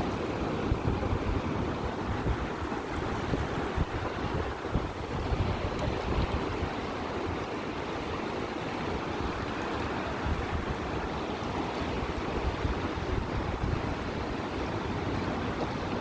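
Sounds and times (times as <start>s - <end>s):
river water rushing: 0.0s - 16.0s
wind buffeting microphone: 0.0s - 16.0s.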